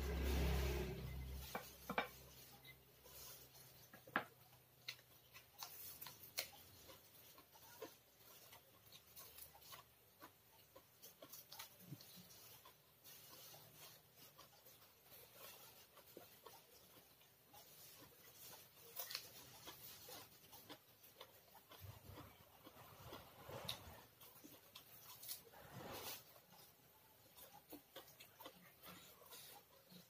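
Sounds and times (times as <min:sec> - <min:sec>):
person chewing and crunching food: 0:00.1 - 0:30.0.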